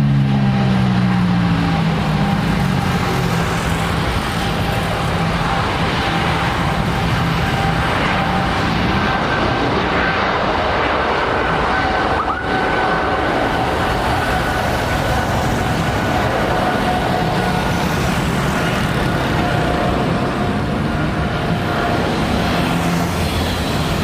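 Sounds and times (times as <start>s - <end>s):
faint engine whine: 0.0s - 24.0s
jet engines roaring: 0.0s - 24.0s.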